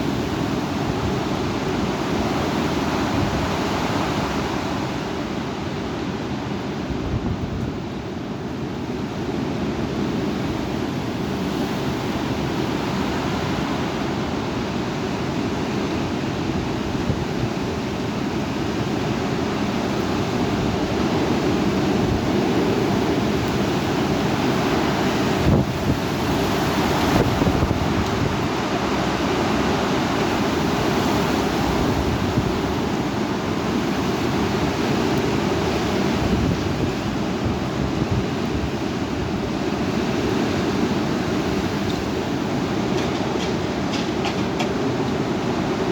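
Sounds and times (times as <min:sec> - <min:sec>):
strong wind blowing: 0:00.0 - 0:45.9
wind buffeting microphone: 0:06.6 - 0:08.0, 0:09.5 - 0:45.9.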